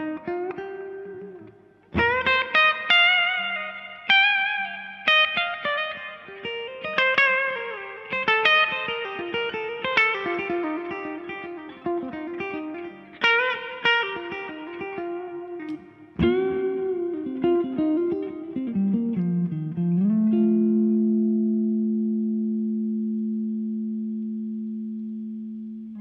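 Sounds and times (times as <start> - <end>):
slow electric guitar melody: 0.0 - 26.0.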